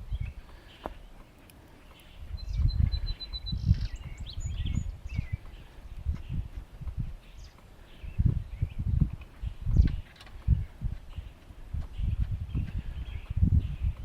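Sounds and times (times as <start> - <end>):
wind gusts on microphone: 0.0 - 0.6, 2.1 - 14.0
birds chirping: 0.0 - 14.0.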